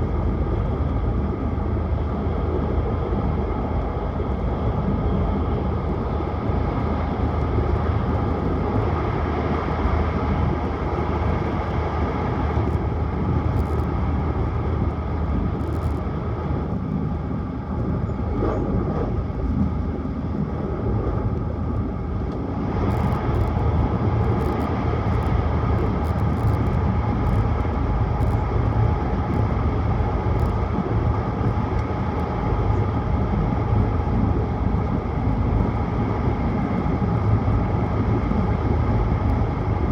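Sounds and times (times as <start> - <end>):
train running noise rumble: 0.0 - 39.9.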